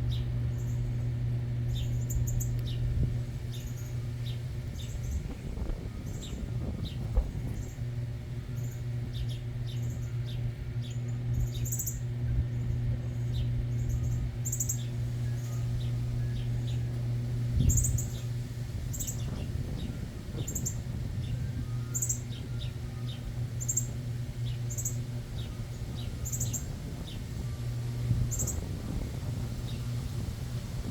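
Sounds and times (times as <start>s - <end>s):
small birds chirping: 0.0s - 30.9s
steady low hum: 0.0s - 30.9s.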